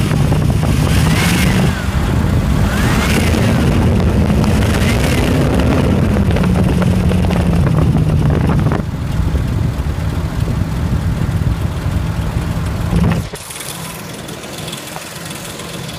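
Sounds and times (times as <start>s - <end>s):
car engine running: 0.0s - 15.9s
engine ticking: 0.0s - 15.9s.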